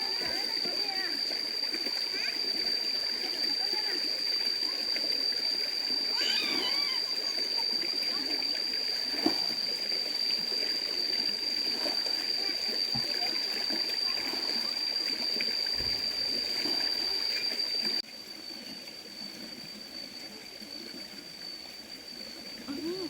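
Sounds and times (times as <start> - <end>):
steady high-pitched tone: 0.0 - 23.0
water trickling in a stream: 0.0 - 23.0.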